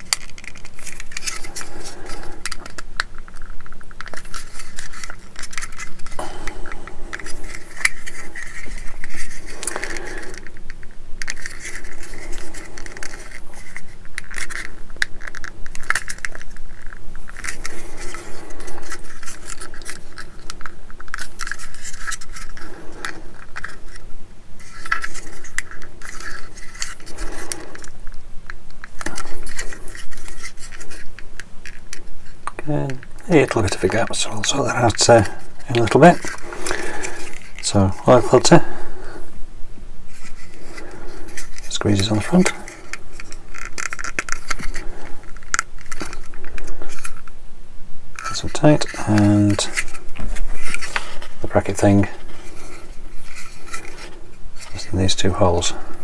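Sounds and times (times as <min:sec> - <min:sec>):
plastic parts clicking and tapping: 0:00.0 - 0:38.6, 0:40.1 - 0:47.3.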